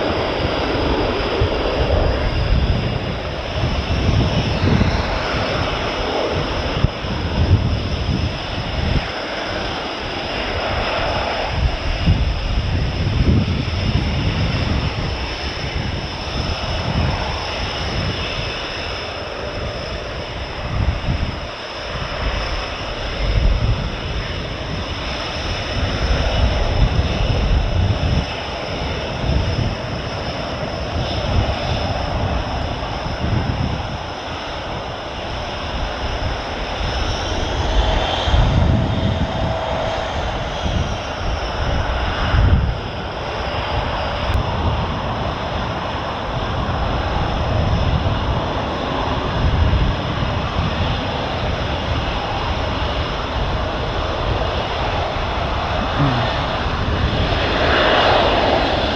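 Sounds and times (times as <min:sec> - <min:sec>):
jet engine turbine whine: 0:00.0 - 0:58.9.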